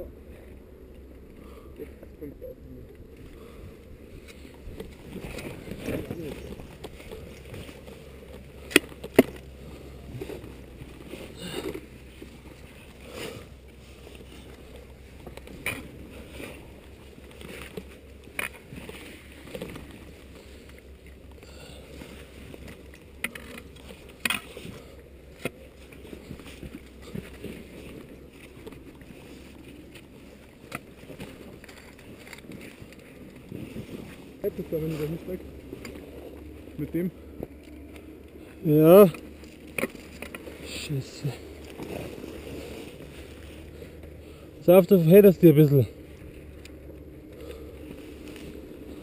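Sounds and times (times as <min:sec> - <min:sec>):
rustling and scraping on rock: 0:04.1 - 0:44.6, 0:45.9 - 0:49.0.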